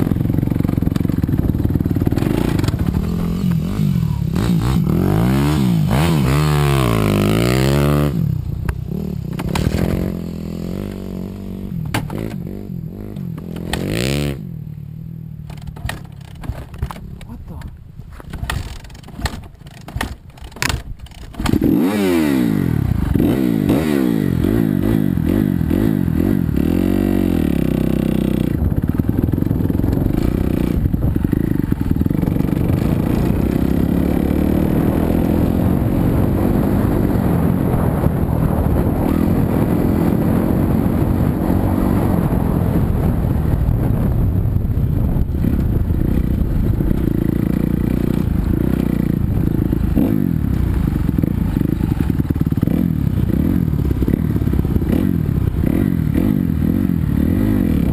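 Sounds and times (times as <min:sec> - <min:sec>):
dirt bike engine revving: 0:00.0 - 0:14.7, 0:18.5 - 0:43.3, 0:45.3 - 0:57.9.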